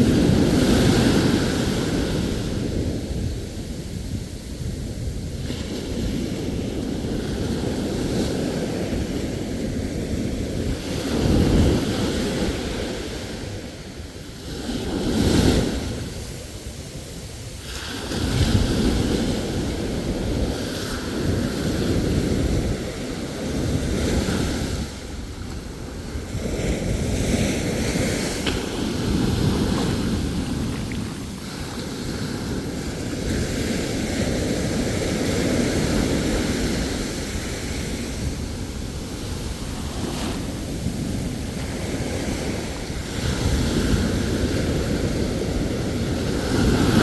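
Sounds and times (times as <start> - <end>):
ocean waves breaking on shore: 0.0 - 47.0
wind rumbling on microphone: 0.0 - 47.0.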